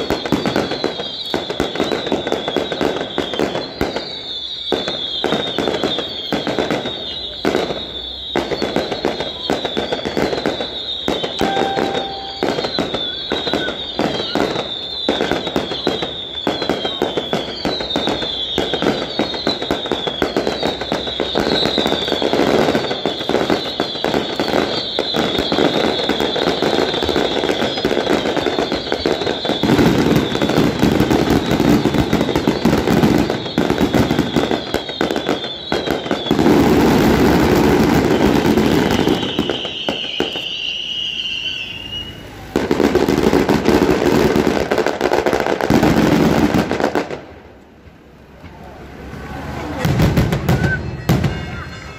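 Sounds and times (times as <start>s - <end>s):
high falling whistle: 0.0s - 42.5s
fireworks crackling bangs: 0.0s - 51.9s.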